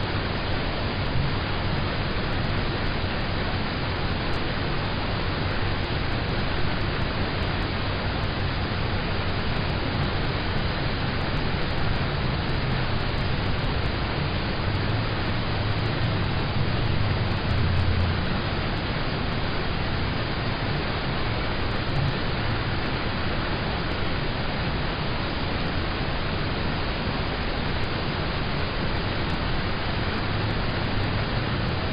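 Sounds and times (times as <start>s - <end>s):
rain falling on a car: 0.0s - 31.9s.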